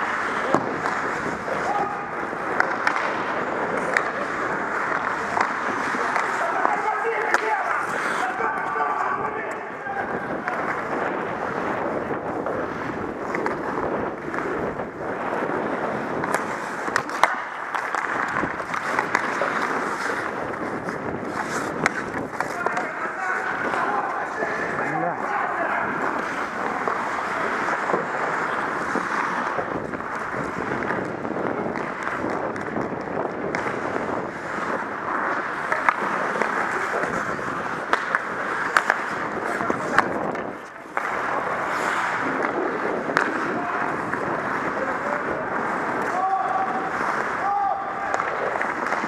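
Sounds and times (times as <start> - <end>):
hockey stick clacks: 0.0 - 49.0
skate blades scraping on ice: 0.0 - 49.0
wind noise on microphone: 0.3 - 6.5, 7.8 - 17.3, 18.1 - 26.8, 27.4 - 48.5.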